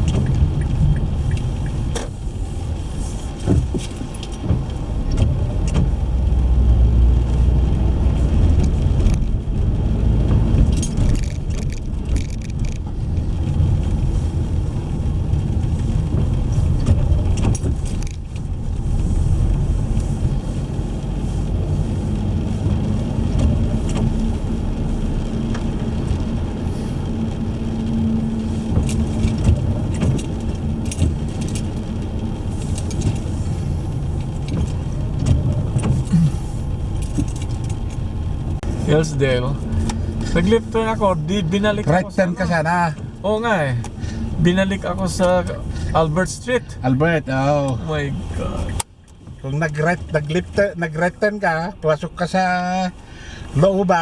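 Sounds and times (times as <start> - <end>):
light rattles and clicks: 0.0 - 46.9
car engine and road noise: 0.0 - 54.0.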